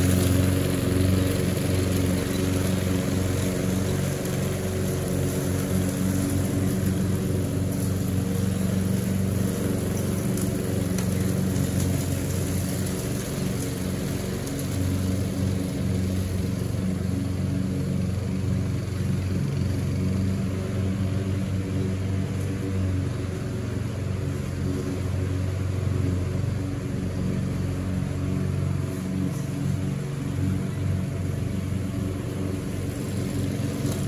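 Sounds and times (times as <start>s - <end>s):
lawn mower engine running: 0.0s - 34.0s.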